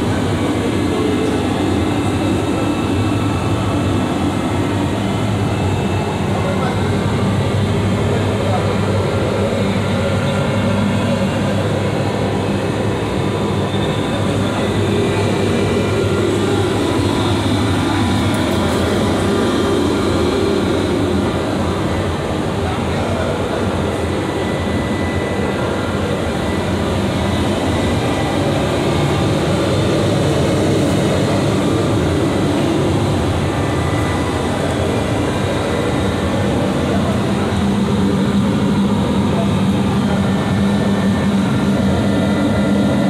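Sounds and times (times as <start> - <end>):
engine room machinery drone: 0.0 - 43.0.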